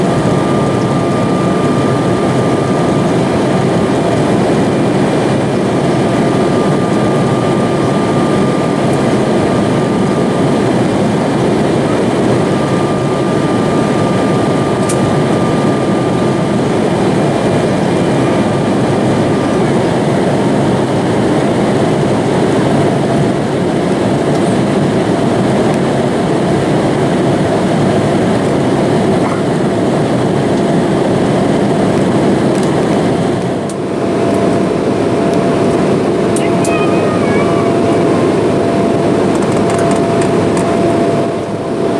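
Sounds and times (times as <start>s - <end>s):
jet cabin engine and airflow rush: 0.0s - 41.9s.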